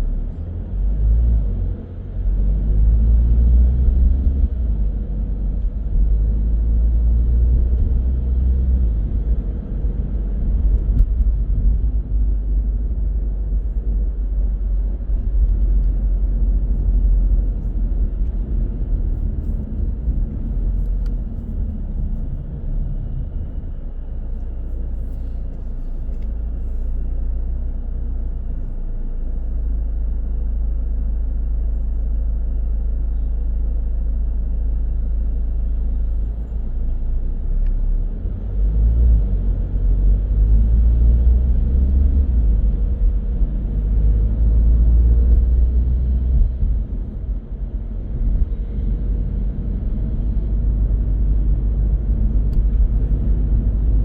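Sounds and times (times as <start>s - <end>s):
engine and road noise rumble: 0.0s - 54.0s.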